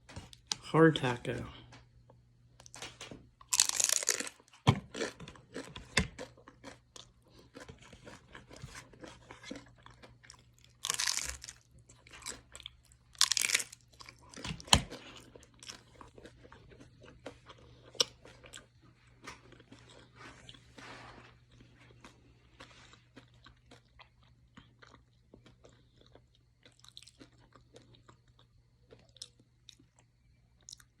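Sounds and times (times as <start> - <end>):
crunching taco bites: 2.6 - 31.0
crunchy chewing: 3.4 - 31.0.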